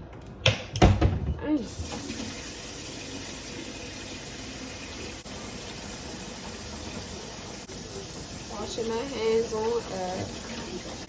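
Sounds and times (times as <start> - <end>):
sink faucet running: 1.6 - 11.0.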